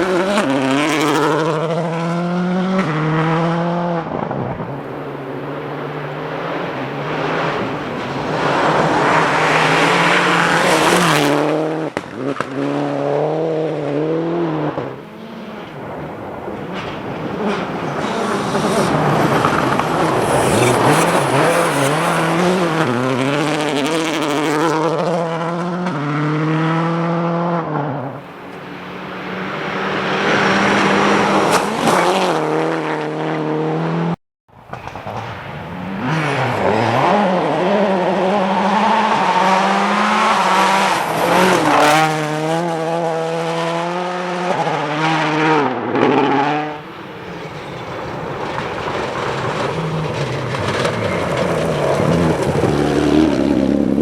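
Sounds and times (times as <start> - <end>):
rally car engines revving: 0.0 - 34.2, 34.8 - 54.0.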